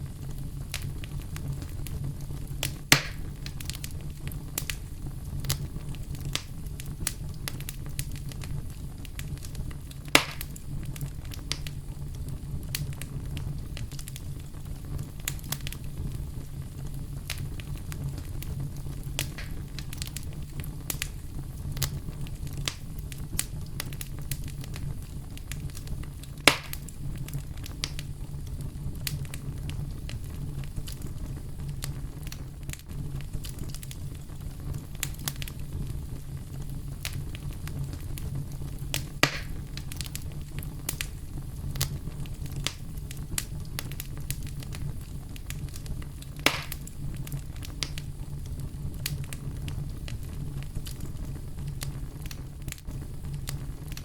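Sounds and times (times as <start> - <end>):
campfire low rumble: 0.0 - 54.0
fire crackling: 0.0 - 54.0
fire popping: 0.0 - 54.0.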